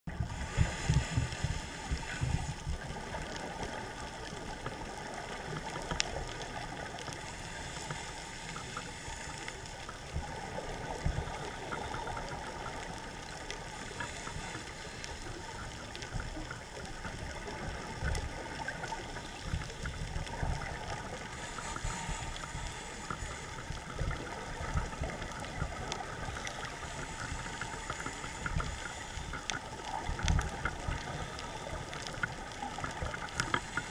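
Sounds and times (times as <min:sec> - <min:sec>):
underwater bubbles gurgling: 0:00.1 - 0:33.9
faint hum: 0:00.2 - 0:33.9.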